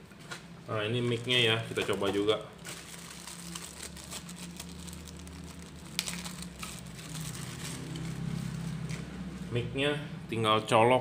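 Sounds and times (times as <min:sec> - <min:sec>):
low electrical hum: 0:00.0 - 0:11.0
plastic rustling: 0:00.2 - 0:09.1.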